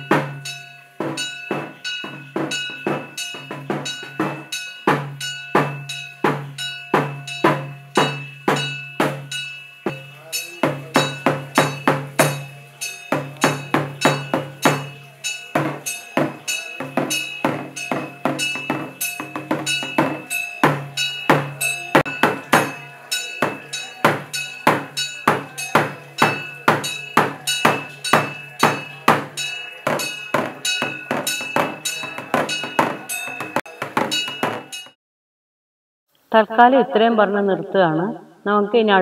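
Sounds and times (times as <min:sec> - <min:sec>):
ritual percussion music: 0:00.0 - 0:35.0
sharp ringing strikes: 0:00.0 - 0:35.0.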